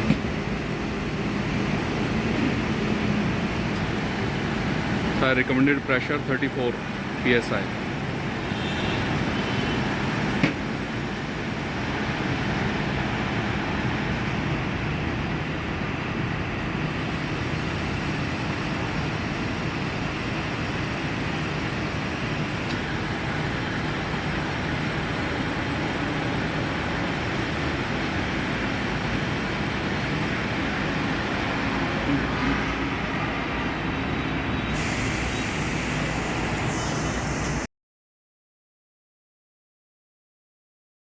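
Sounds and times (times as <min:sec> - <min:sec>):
vehicle and road rumble: 0:00.0 - 0:37.6.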